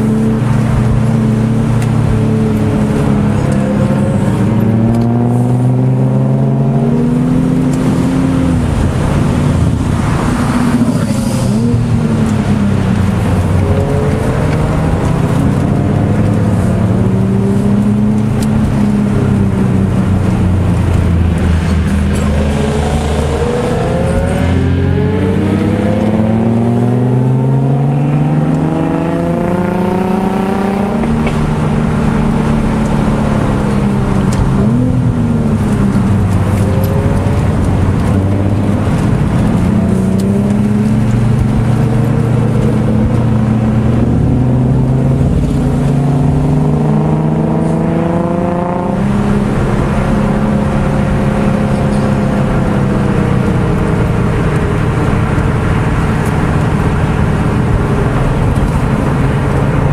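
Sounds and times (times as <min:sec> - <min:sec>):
car engines from inside cabin: 0:00.0 - 0:59.9.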